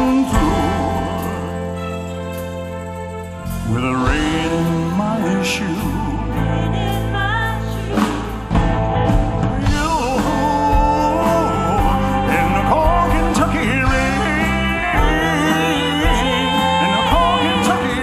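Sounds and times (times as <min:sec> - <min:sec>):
live country-rock band playing: 0:00.0 - 0:18.0.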